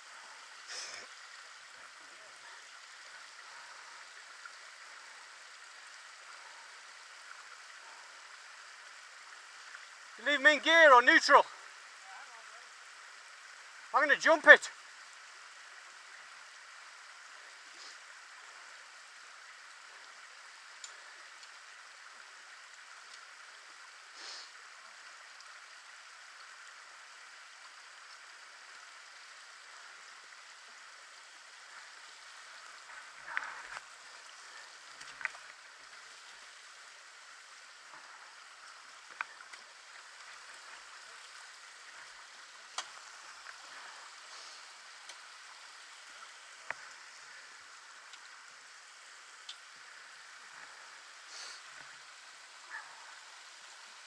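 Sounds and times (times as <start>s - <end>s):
water trickling over rocks: 0.0s - 54.0s.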